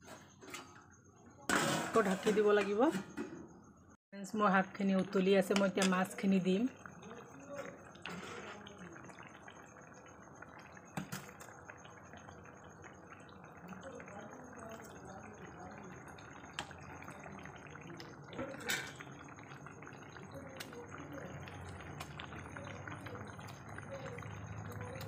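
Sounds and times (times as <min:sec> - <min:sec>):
curry bubbling in a pan: 0:04.3 - 0:25.0.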